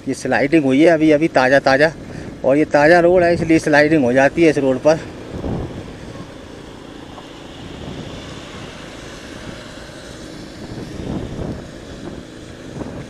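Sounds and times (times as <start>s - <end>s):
small motorcycle engine cruising: 0.0s - 13.0s
wind rushing over microphone: 0.0s - 13.0s.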